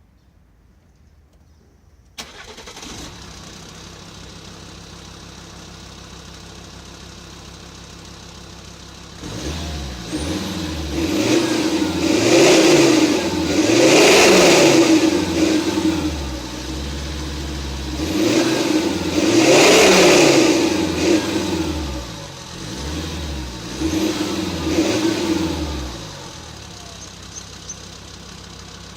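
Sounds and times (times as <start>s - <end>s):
car engine idling and revving: 2.2s - 28.9s
diesel car engine starting: 2.2s - 28.9s.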